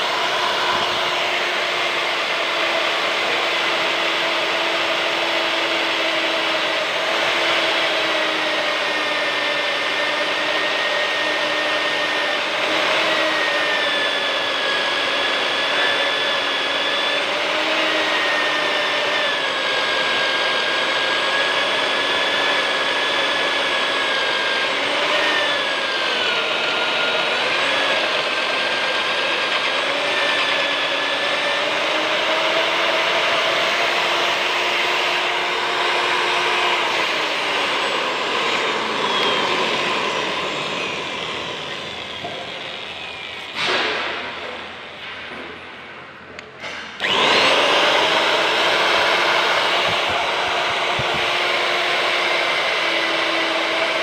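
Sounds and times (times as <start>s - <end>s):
magnetic drill motor whine: 0.0s - 43.6s, 47.0s - 54.0s.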